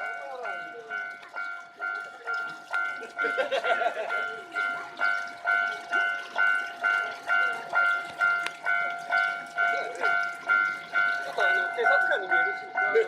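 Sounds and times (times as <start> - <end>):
level-crossing alarm bell: 0.0 - 13.0.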